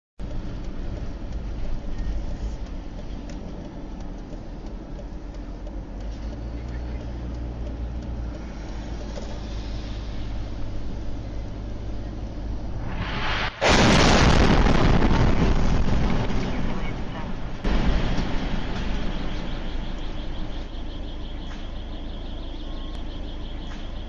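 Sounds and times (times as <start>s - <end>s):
car engine and tyre rumble: 0.2s - 13.6s, 14.4s - 24.0s.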